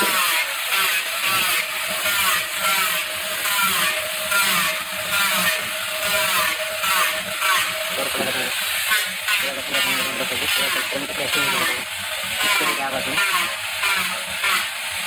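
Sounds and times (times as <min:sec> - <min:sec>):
angle grinder motor running: 0:00.0 - 0:15.0
grinding rasp on wood edge: 0:00.0 - 0:15.0.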